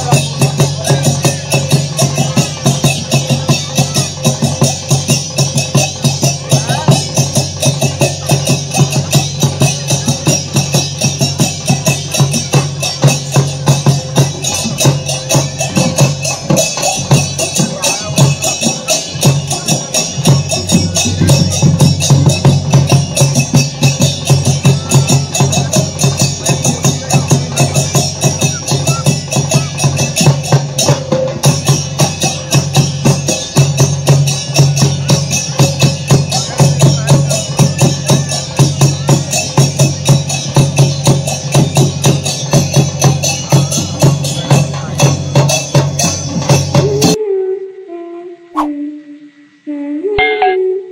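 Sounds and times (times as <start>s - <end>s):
drums and jingling percussion: 0.0s - 47.2s
folk dance music: 0.0s - 47.2s.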